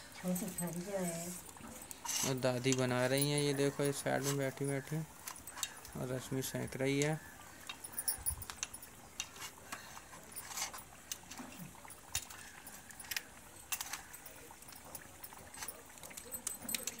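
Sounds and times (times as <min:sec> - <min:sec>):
faint steady hiss: 0:00.0 - 0:17.0
steel plates and bowls clinking: 0:00.2 - 0:17.0.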